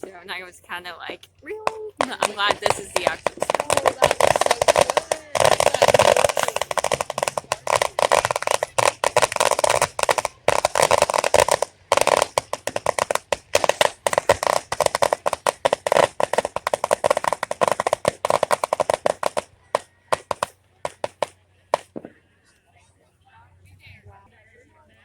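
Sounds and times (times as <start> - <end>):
fireworks bangs and crackles: 1.6 - 22.2.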